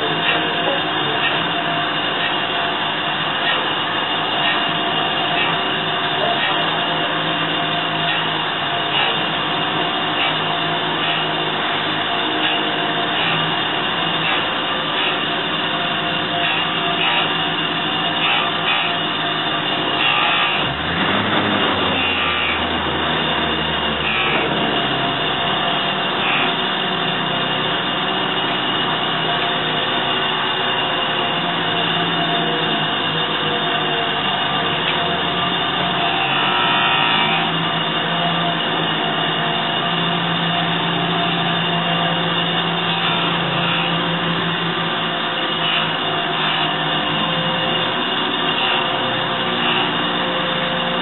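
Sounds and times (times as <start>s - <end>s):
surface grinder whining: 0.0s - 51.0s.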